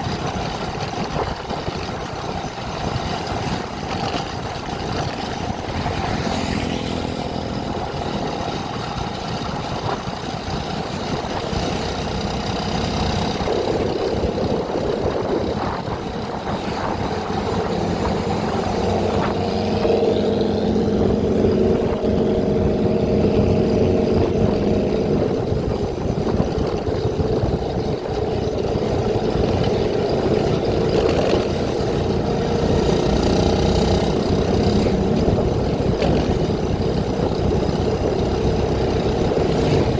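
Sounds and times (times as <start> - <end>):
road noise: 0.0 - 39.9
vehicle engine running: 0.0 - 39.9.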